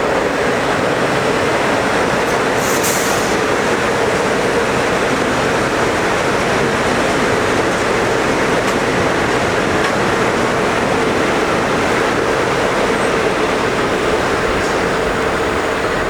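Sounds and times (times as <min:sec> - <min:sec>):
passenger train passing: 0:00.0 - 0:16.0
wheels rushing on rails: 0:00.0 - 0:16.0.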